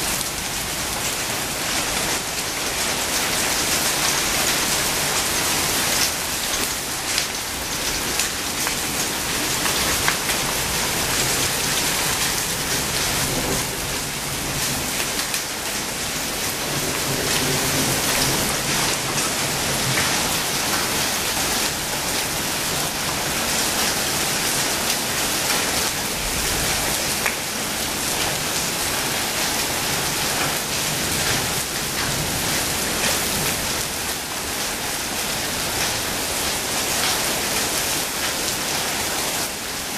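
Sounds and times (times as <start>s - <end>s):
steady rain on paving: 0.0s - 39.9s.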